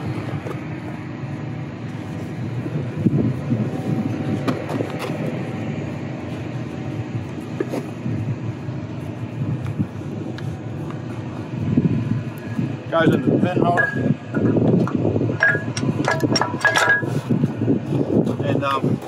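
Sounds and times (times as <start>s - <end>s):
heavy machinery droning: 0.0s - 19.0s.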